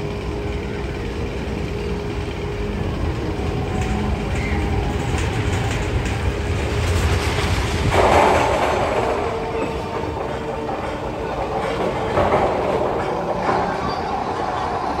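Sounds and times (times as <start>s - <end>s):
roller coaster rumbling and clattering: 0.0s - 15.0s.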